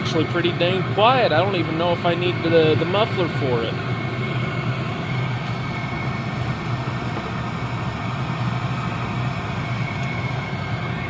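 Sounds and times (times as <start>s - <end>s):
air heater hum: 0.0s - 11.0s
faint high whine: 0.0s - 11.0s.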